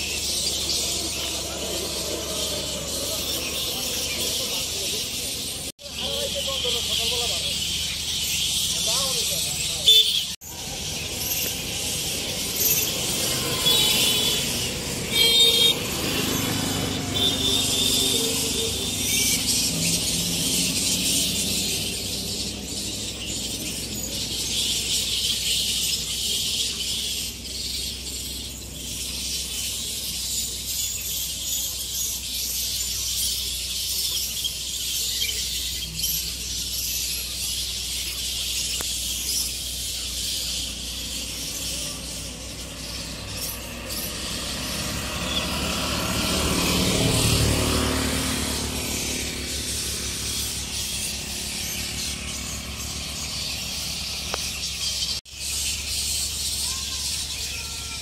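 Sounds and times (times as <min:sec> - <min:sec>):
flying foxes squealing: 0:00.0 - 0:58.0.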